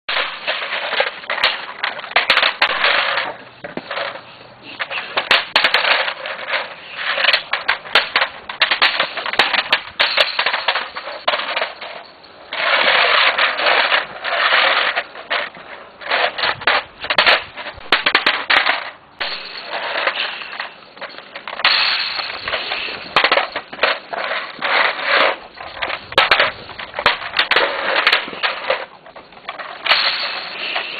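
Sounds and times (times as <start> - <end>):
plastic toy scraping on concrete: 0.1 - 30.9.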